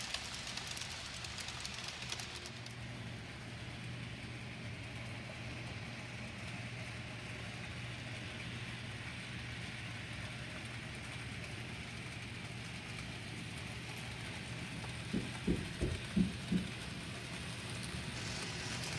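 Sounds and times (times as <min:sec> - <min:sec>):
model train running hum: 0:00.0 - 0:18.9.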